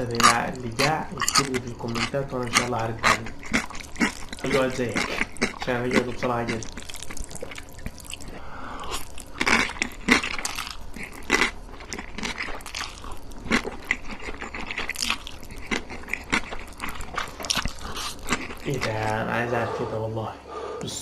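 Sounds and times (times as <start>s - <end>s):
food crunching: 0.0s - 19.5s
mouth biting and chewing food: 0.0s - 19.8s.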